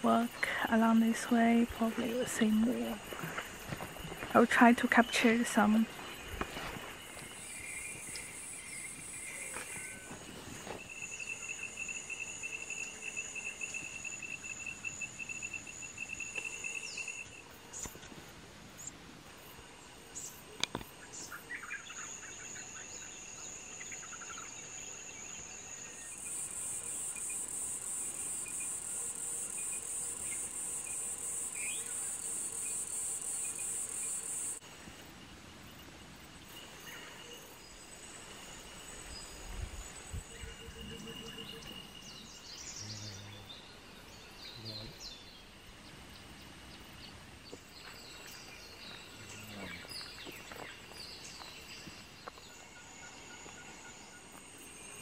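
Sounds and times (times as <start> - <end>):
high insect whine: 0.0 - 55.0
insects trilling: 0.0 - 55.0
loud dense insect buzz: 0.0 - 55.0.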